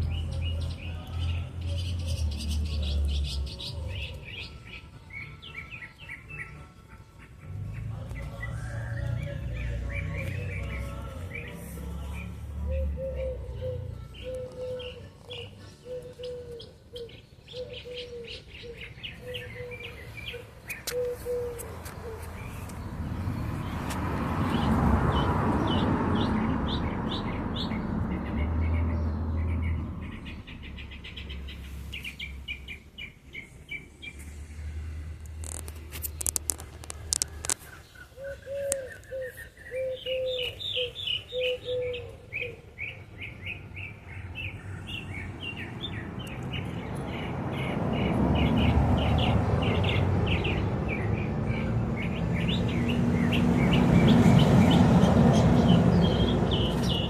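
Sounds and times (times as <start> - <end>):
birds chirping in trills: 0.0 - 34.8, 35.4 - 57.0.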